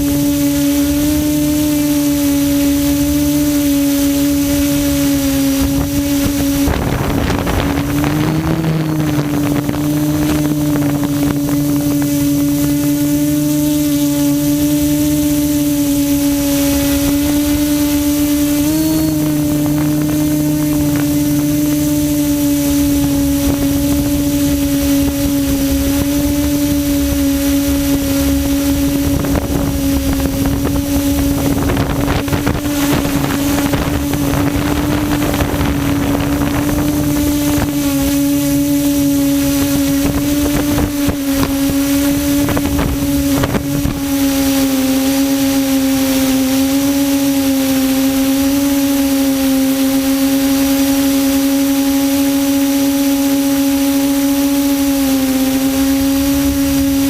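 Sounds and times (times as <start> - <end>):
quadcopter propellers humming: 0.0 - 57.0
wind on microphone: 0.0 - 57.0.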